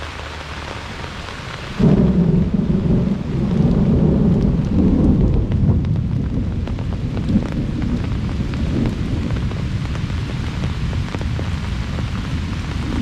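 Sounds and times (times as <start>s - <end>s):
heavy rain with wind: 0.0s - 13.0s
deep rumble: 1.8s - 13.0s.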